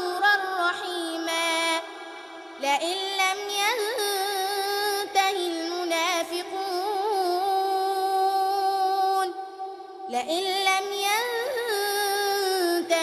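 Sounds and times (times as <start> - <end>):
girl reciting melodically: 0.0 - 13.0.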